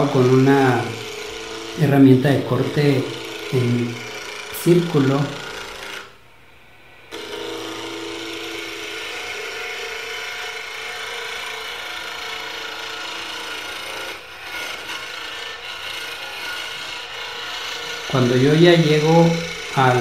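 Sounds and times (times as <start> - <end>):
lathe tool scraping wood: 0.0 - 6.2, 7.0 - 20.0.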